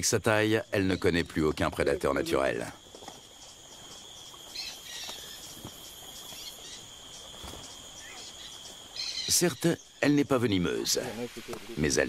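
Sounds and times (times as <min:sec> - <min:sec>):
faint chirps: 0:00.0 - 0:12.0
insects trilling: 0:00.0 - 0:12.0.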